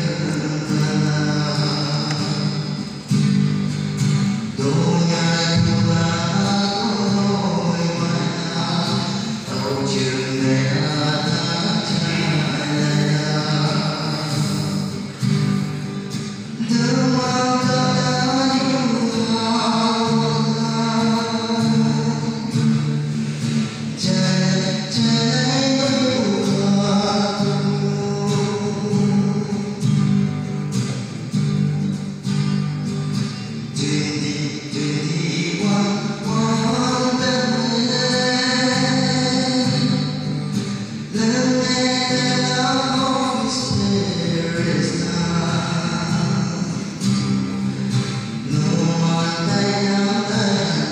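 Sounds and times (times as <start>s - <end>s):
man singing into microphone: 0.0s - 3.4s, 4.0s - 30.3s, 33.5s - 50.9s
acoustic guitar: 0.0s - 50.9s.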